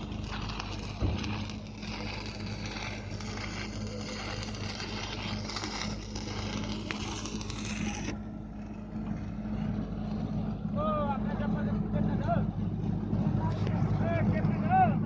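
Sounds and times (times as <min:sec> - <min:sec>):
welding arc crackling: 0:00.0 - 0:12.3
welding machine electrical hum: 0:00.0 - 0:15.0.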